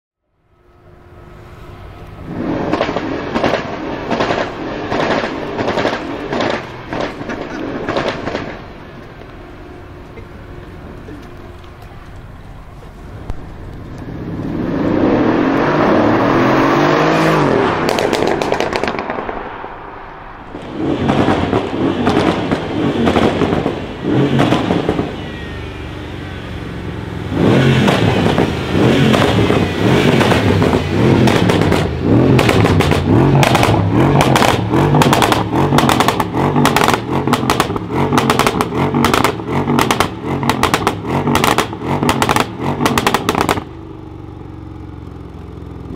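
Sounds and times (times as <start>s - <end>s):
car engine revving: 1.2s - 45.9s
exhaust crackles and pops: 2.0s - 14.6s, 17.8s - 25.2s, 27.3s - 45.9s.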